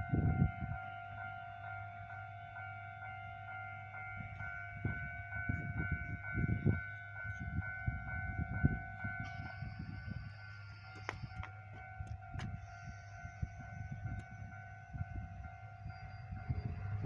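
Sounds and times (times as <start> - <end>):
level-crossing two-tone bell: 0.0 - 17.0.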